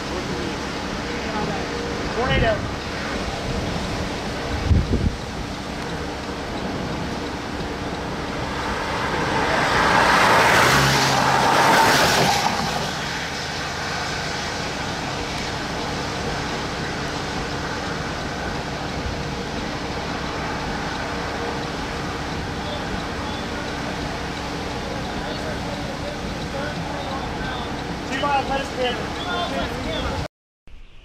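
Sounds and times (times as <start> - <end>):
vehicle road noise: 0.0 - 30.3.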